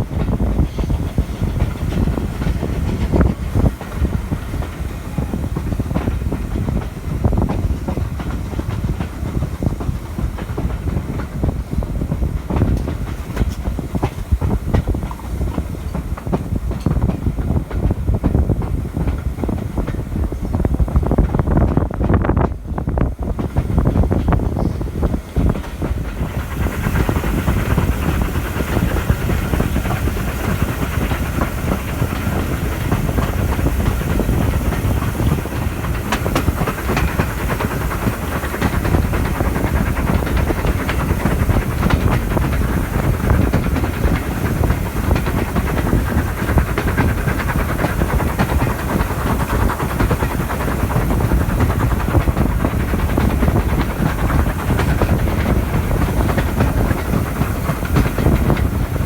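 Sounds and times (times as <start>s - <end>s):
rail joint clicks: 0.0s - 59.0s
steam hissing: 0.0s - 59.0s
train wheels rumbling on rails: 0.0s - 59.0s.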